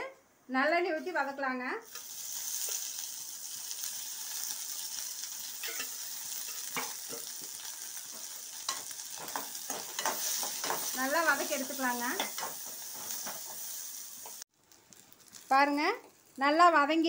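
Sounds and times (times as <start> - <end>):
shallots and garlic sizzling in oil: 0.6 - 17.0.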